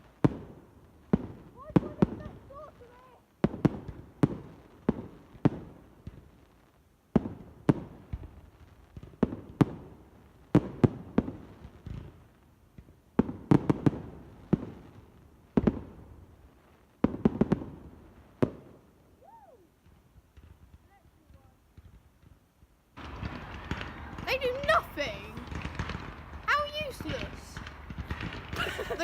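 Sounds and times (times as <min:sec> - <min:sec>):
fireworks bursting with bangs: 0:00.0 - 0:29.0.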